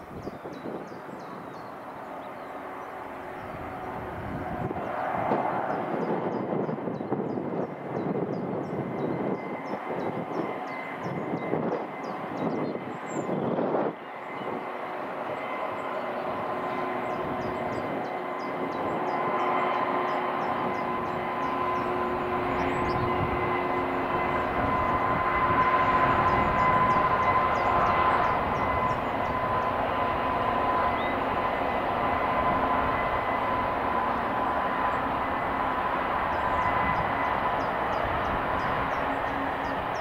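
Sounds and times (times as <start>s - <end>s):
diesel locomotive engine whine: 0.0s - 40.0s
rumble of train wagons: 0.0s - 40.0s.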